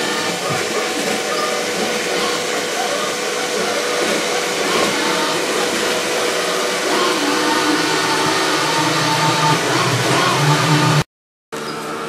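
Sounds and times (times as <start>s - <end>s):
robot vacuum cleaner whirring: 0.0s - 11.0s.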